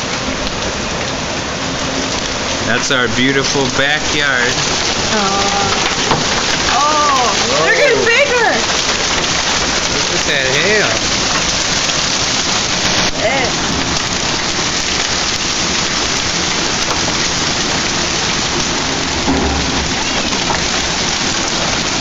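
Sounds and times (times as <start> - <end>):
heavy rain and hail pouring: 0.0 - 22.0.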